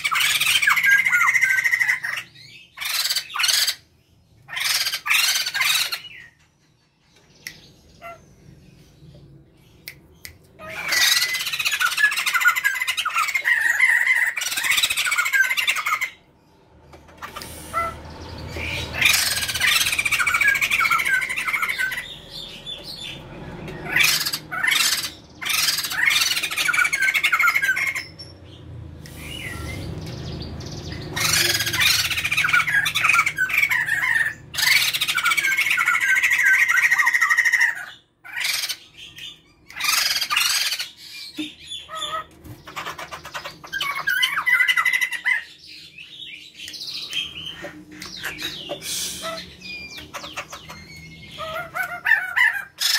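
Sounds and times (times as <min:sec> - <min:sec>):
birds chattering and squawking: 0:00.0 - 0:52.9.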